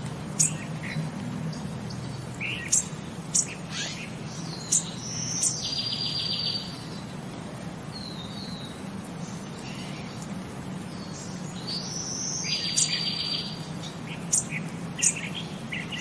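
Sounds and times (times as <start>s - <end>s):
birds chirping and trilling: 0.2s - 16.0s.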